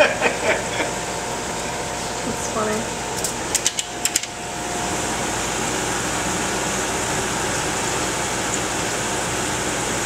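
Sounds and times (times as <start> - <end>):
air conditioner blowing: 0.0 - 10.0.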